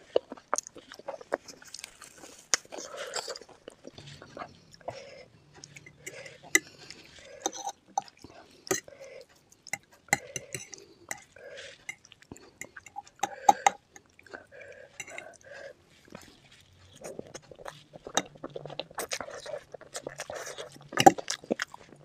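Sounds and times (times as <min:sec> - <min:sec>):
person chewing wetly: 0:00.0 - 0:22.0.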